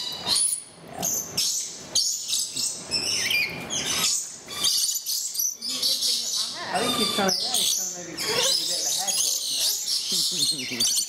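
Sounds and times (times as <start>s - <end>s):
parrots screeching and chattering: 0.0s - 11.0s.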